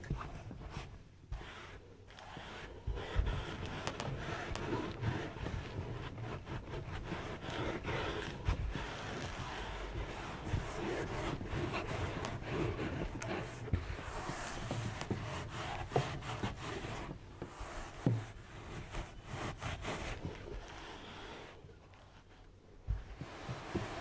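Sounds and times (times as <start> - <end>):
hands rubbing and scraping body: 0.0 - 24.0.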